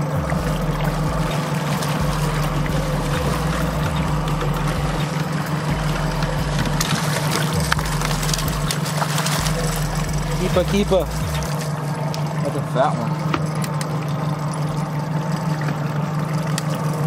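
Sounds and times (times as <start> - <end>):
boat motor humming: 0.0 - 17.0
fish splashing at surface: 0.0 - 17.0
water lapping around hull: 0.0 - 17.0.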